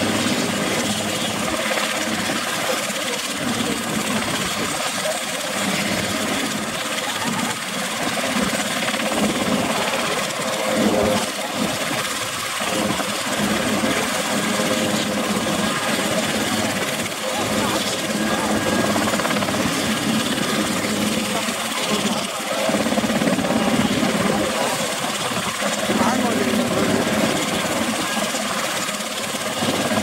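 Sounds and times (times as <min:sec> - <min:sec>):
helicopter engine noise: 0:00.0 - 0:30.0
helicopter rotor noise: 0:00.0 - 0:30.0.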